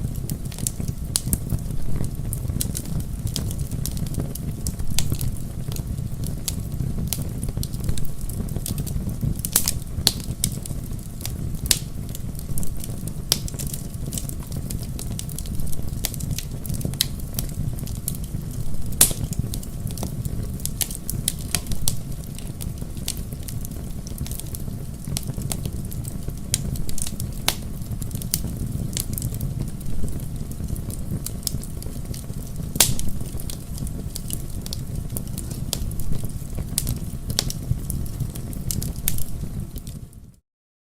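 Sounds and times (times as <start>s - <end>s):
wood fire crackling and popping: 0.0s - 40.4s.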